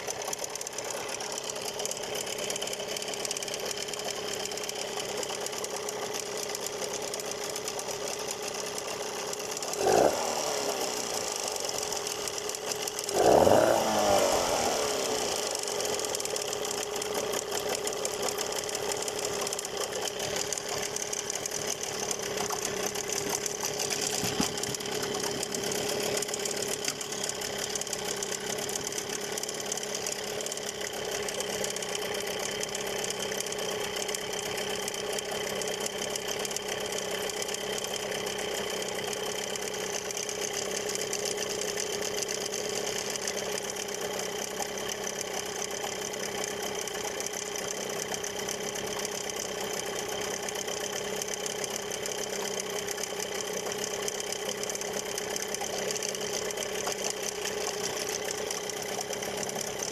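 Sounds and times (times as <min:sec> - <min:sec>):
rapid rattling: 0:00.0 - 0:09.8, 0:15.4 - 0:59.9
outboard motor running: 0:00.0 - 0:59.9.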